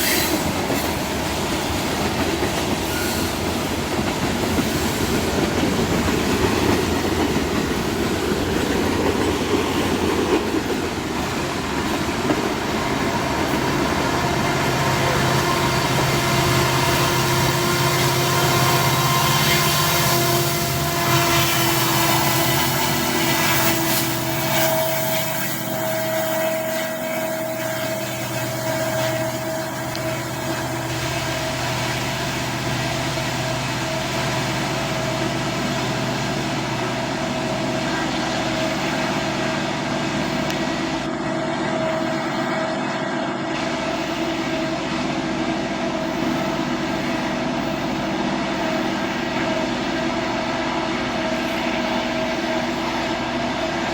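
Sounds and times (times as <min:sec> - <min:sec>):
diesel locomotive engines droning: 0:00.0 - 0:53.9.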